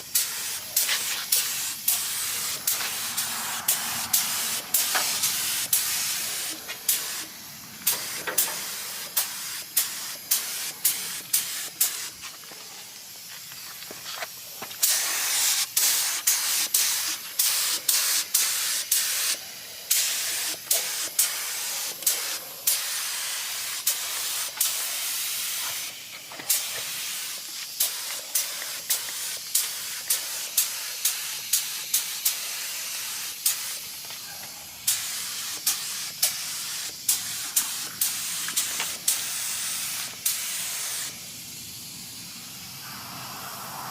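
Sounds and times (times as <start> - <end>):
paint spray gun hissing: 0.0 - 43.9.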